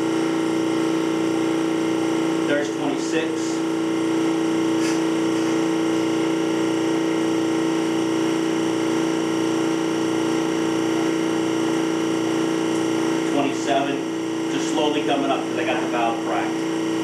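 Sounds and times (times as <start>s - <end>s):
vacuum pump humming: 0.0s - 17.0s.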